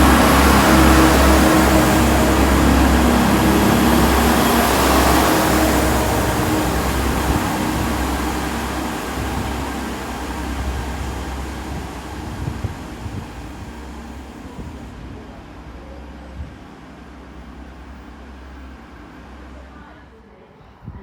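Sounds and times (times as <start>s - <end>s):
diesel train engine rumbling: 0.0s - 21.0s.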